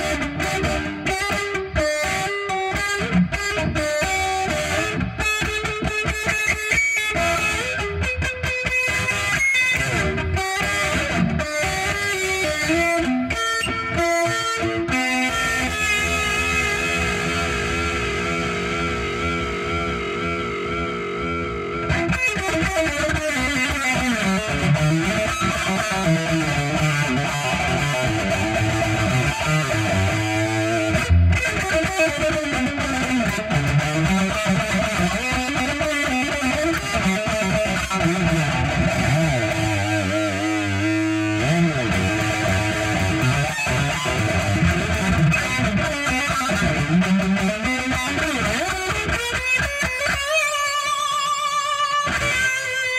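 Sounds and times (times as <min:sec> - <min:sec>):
electric guitar solo: 0:00.0 - 0:52.9.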